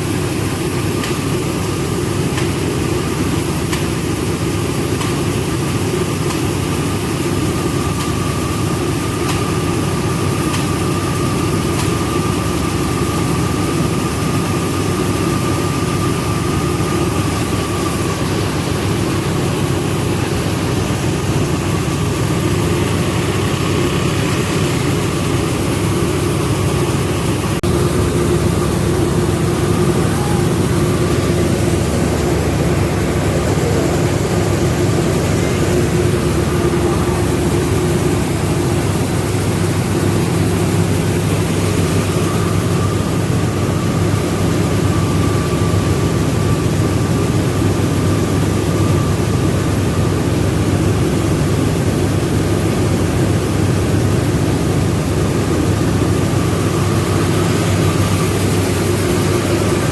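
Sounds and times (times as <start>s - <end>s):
milling machinery drone: 0.0s - 59.9s.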